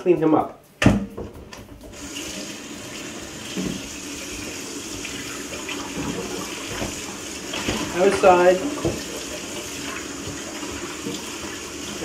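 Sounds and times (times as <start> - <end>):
faucet running into steel sink: 1.9 - 12.0.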